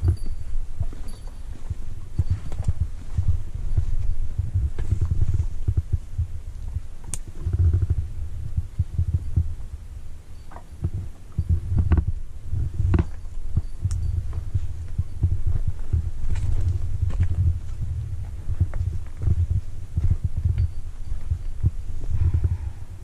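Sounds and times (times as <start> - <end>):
low rumble buffeting microphone: 0.0 - 23.0.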